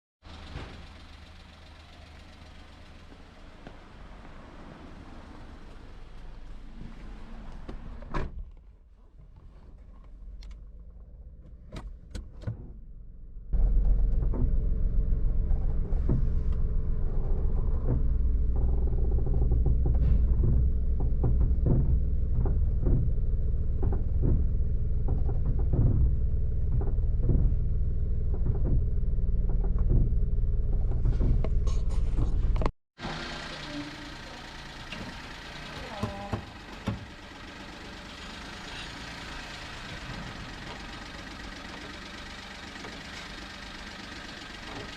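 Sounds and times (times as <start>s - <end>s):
car engine rumbling: 0.2s - 44.9s.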